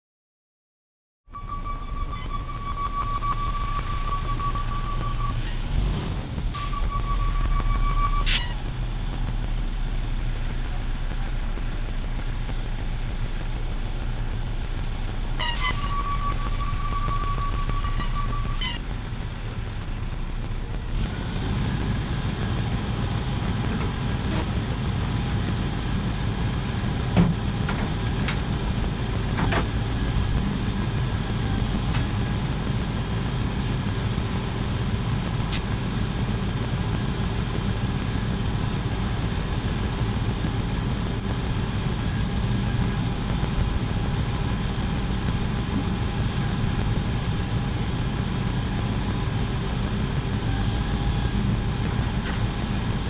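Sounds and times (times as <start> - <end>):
high whine: 1.3 - 53.0
diesel engine rumble: 1.4 - 53.0.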